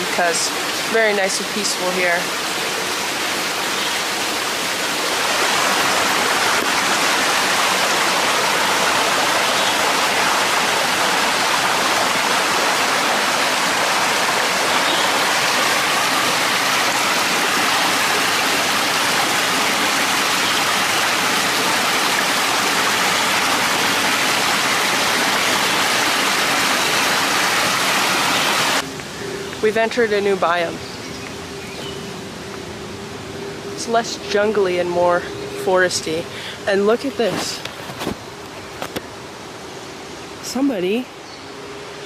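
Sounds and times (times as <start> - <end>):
small stream flowing: 0.0 - 42.0.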